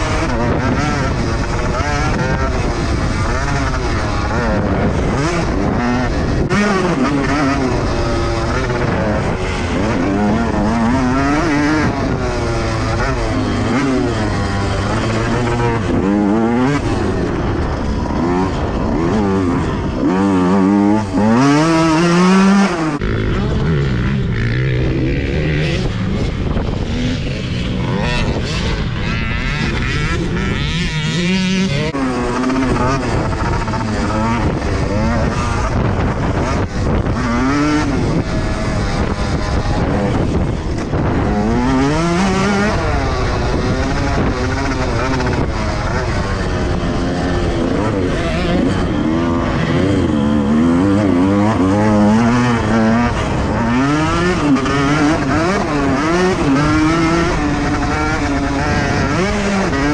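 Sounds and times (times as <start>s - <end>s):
dirt bike engine revving: 0.0s - 59.9s
wind on microphone: 0.0s - 59.9s.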